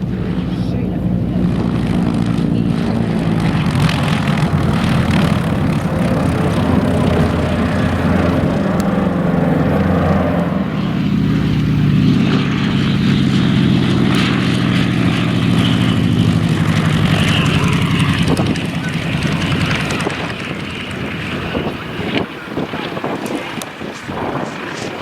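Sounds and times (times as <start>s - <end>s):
model airplane engine running: 0.0s - 25.0s.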